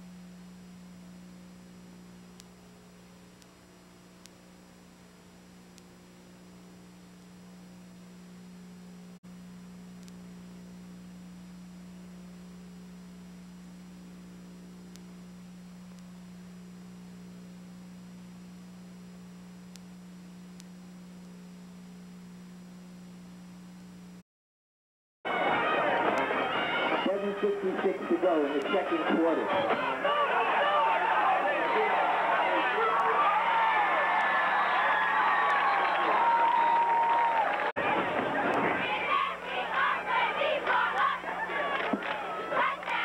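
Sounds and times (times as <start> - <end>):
low electrical hum: 0.0 - 24.2, 25.3 - 43.0.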